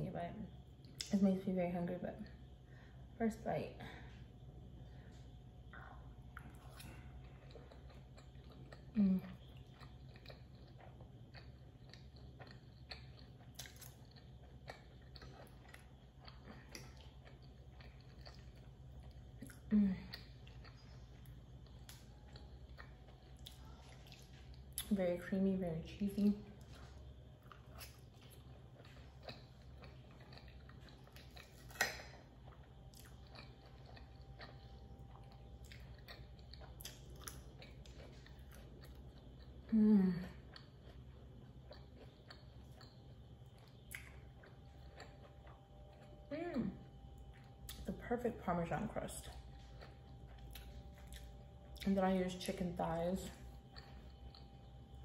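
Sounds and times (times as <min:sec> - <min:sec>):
faint low hum: 0:00.0 - 0:55.0
chewing food: 0:04.8 - 0:25.1, 0:26.1 - 0:55.0.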